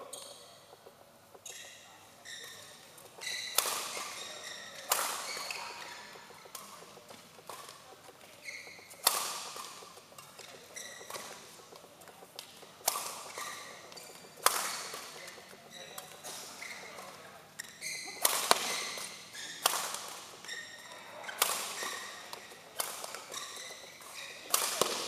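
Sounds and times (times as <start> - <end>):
shoes squeaking on court: 0.0 - 25.0
rackets striking shuttlecock: 2.4 - 25.0.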